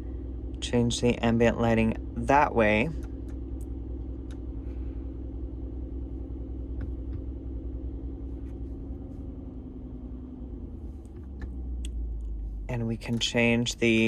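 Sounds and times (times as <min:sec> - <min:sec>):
car engine idling rumble: 0:00.0 - 0:14.0.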